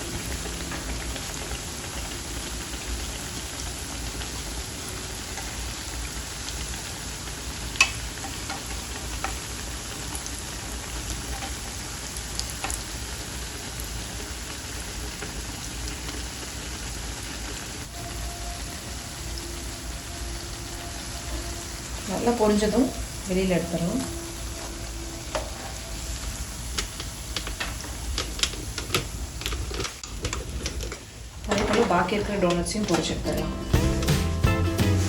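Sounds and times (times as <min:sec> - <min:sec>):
dough sizzling in hot oil: 0:00.0 - 0:33.1.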